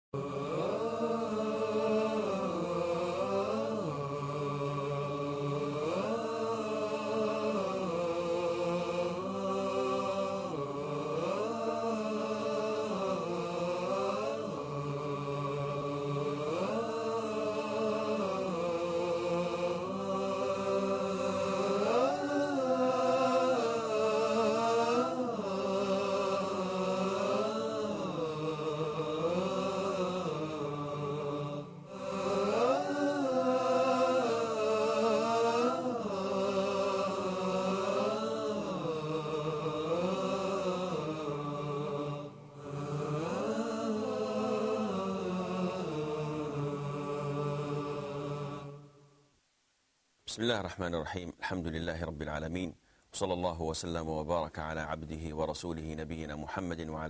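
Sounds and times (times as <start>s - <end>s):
voices chanting long notes: 0.2s - 49.2s.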